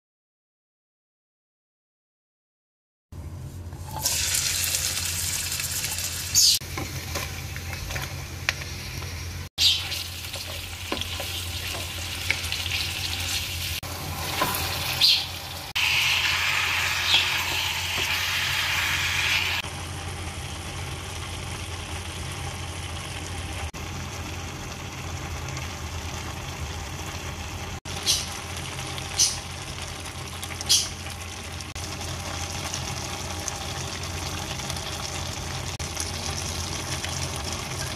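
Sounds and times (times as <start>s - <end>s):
oil sizzling in a wok: 3.8s - 37.9s.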